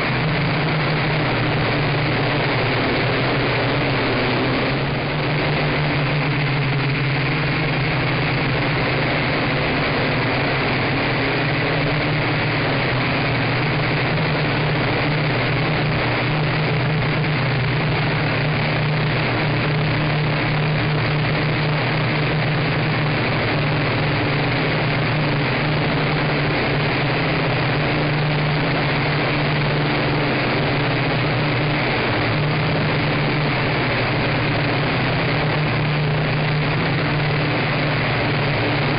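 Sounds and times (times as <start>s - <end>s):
quadcopter propellers buzzing: 0.0s - 38.9s.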